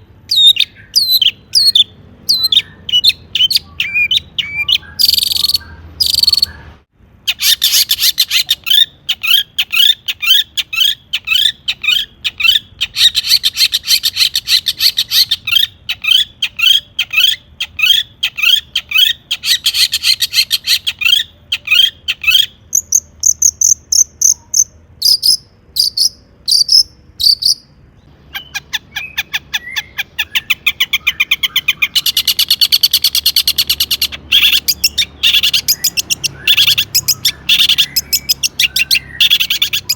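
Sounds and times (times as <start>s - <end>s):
shrike singing: 0.0s - 39.9s.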